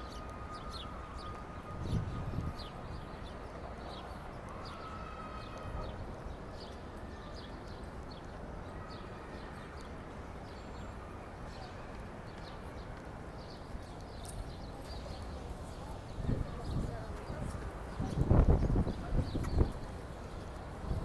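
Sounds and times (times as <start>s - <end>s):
hum of city noise: 0.0s - 21.0s.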